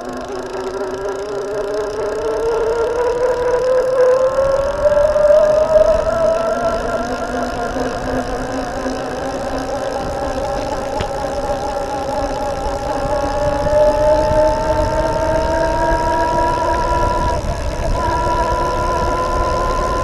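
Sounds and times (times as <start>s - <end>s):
electric bike motor whining: 0.0s - 20.0s.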